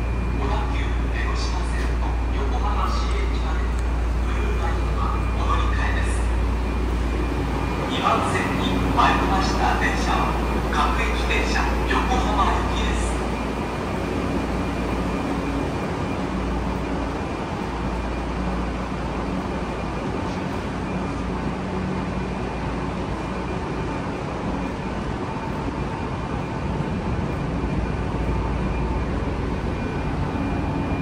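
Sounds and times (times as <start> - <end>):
train equipment humming: 0.0 - 31.0.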